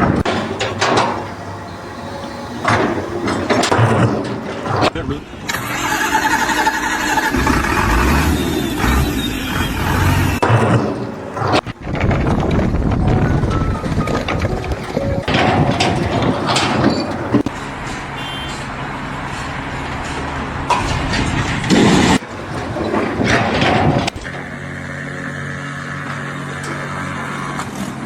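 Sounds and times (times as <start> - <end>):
clattering: 0.0 - 7.9, 10.4 - 25.0
heavy machinery noise: 0.0 - 28.0
steady engine drone: 0.0 - 28.0.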